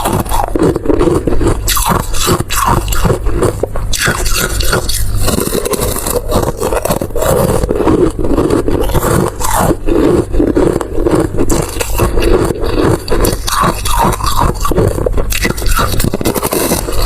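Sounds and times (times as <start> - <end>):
chewing dessert: 0.0 - 17.0
wet clicky mouth noises: 0.0 - 17.0.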